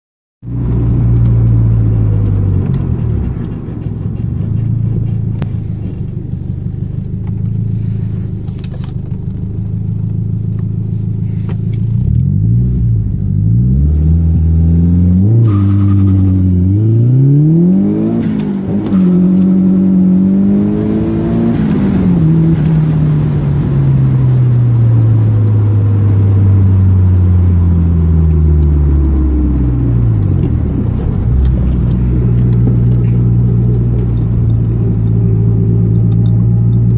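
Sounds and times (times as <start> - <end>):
car engine from inside cabin: 0.4 - 36.9.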